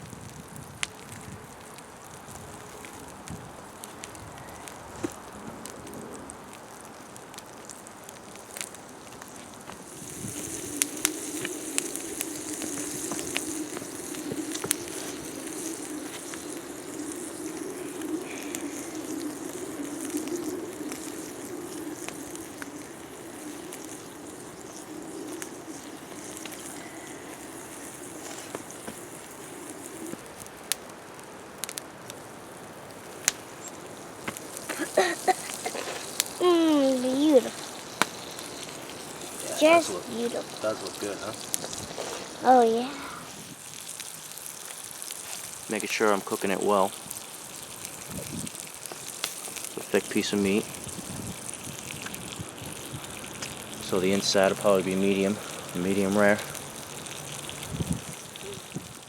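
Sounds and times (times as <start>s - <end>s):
campfire crackling and popping: 0.0s - 59.0s
meat sizzling in fat: 0.0s - 59.0s.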